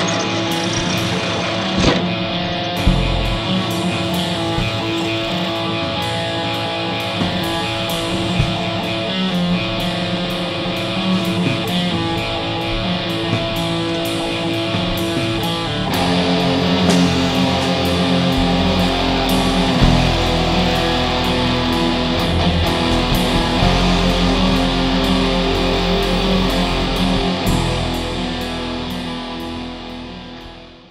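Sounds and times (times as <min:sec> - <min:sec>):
rock music with electric guitar: 0:00.0 - 0:30.9.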